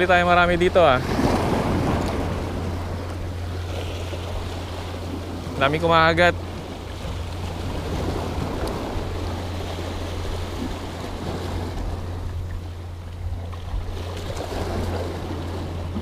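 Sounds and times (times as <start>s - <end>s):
surf washing against rocks: 0.0s - 16.0s
wind buffeting microphone: 0.0s - 16.0s.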